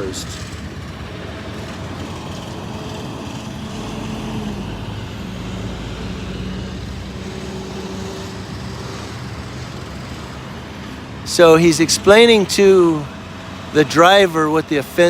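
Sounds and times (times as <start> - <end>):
road traffic noise: 0.0 - 15.0
vehicle engine hum: 0.0 - 15.0.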